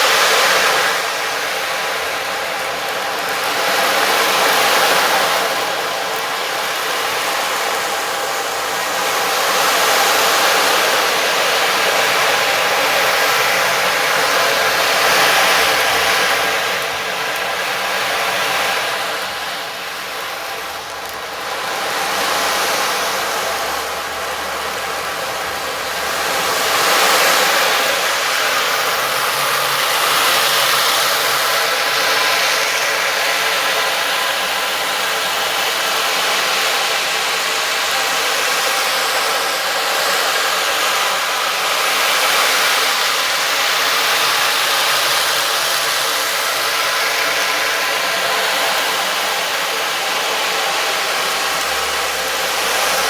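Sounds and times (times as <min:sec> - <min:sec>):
rushing hiss: 0:00.0 - 0:53.0.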